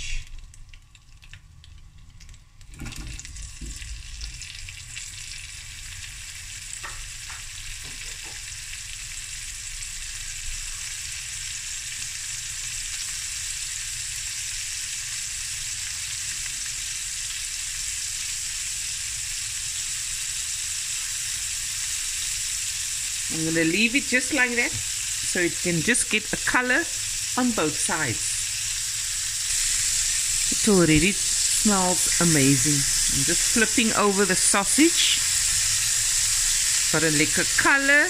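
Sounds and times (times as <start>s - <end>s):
sausage sizzling in a pan: 0.0s - 38.0s.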